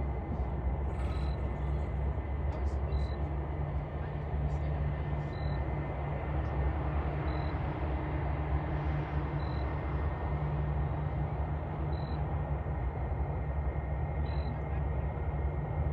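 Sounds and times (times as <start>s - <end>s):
aircraft low rumble: 0.0s - 15.9s.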